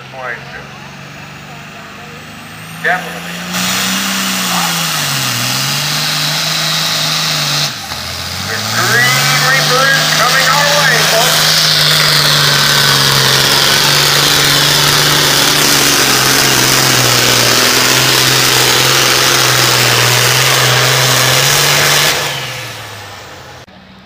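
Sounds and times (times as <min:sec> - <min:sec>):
diesel tractor engine roaring: 0:00.0 - 0:24.0.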